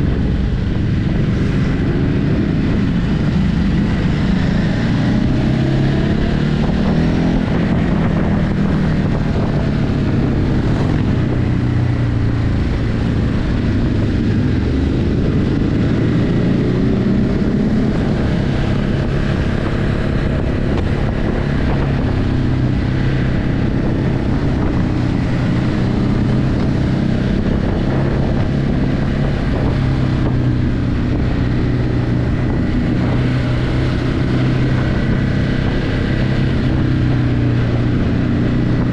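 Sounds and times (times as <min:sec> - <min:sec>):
motorcycle engine cruising: 0:00.0 - 0:38.9
wind on microphone: 0:00.0 - 0:38.9.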